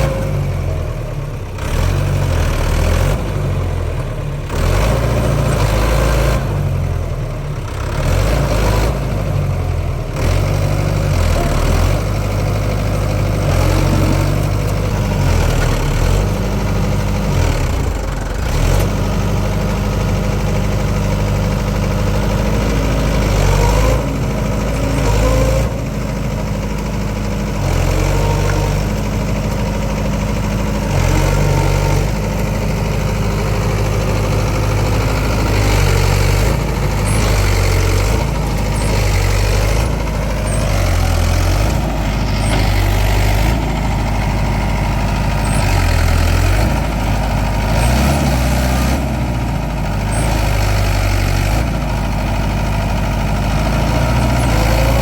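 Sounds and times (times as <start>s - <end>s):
diesel engine under changing load: 0.0s - 55.0s.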